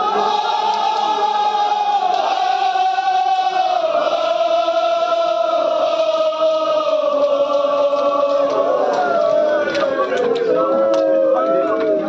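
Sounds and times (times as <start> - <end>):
men chanting together: 0.0 - 12.0.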